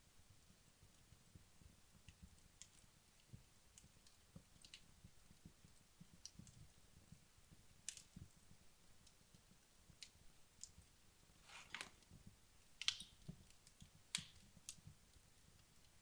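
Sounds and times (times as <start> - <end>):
burning logs crackling and popping: 0.2 - 16.0.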